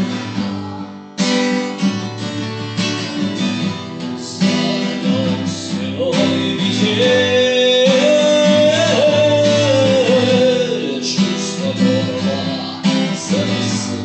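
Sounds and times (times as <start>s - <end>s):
strummed acoustic guitar chords: 0.0s - 14.0s.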